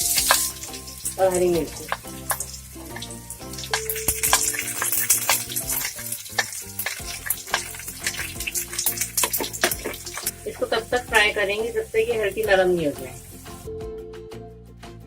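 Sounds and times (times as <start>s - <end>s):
onion sizzling in oil: 0.0s - 13.7s.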